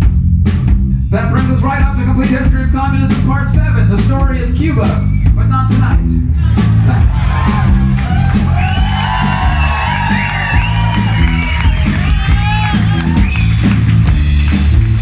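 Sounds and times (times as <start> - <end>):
bass notes: 0.0 - 15.0
steady drum beat: 0.0 - 15.0.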